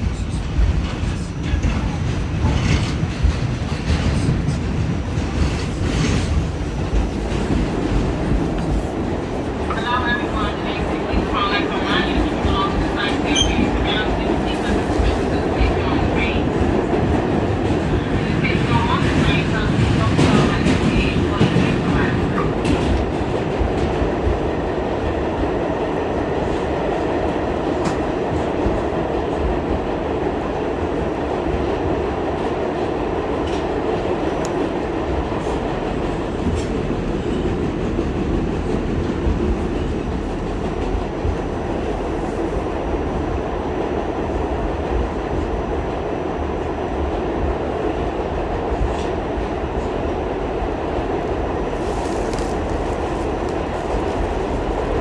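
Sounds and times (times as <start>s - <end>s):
subway car wheels rumbling: 0.0s - 55.0s.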